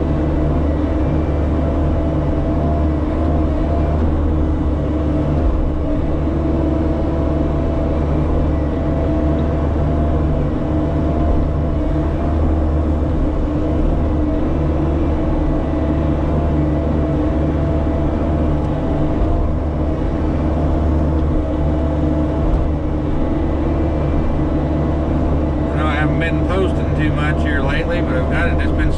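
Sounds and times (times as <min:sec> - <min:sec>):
diesel engine running: 0:00.0 - 0:28.9
high hydraulic whine: 0:00.0 - 0:28.9.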